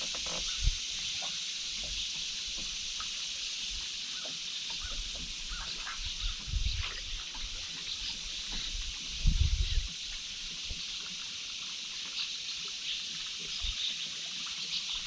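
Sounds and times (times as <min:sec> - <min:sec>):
small water splashes and drips: 0:00.0 - 0:15.0.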